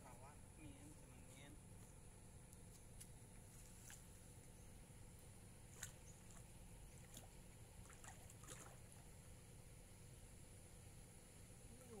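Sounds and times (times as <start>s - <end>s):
faint low hum and hiss: 0.0s - 12.0s.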